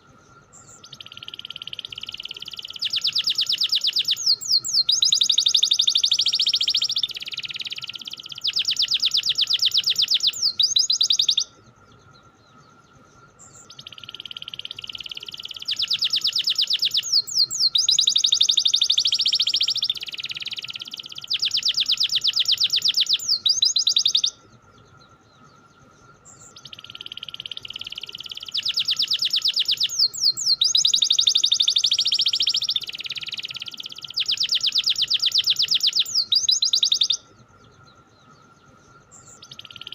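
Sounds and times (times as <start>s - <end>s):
canary singing trills: 0.0s - 39.9s
faint steady high tone: 0.0s - 39.9s.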